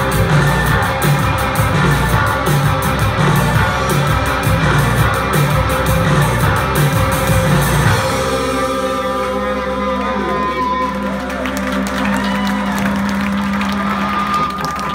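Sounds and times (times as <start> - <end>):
bass guitar: 0.0 - 14.9
drums: 0.0 - 14.9
electric guitars ringing: 0.0 - 14.9.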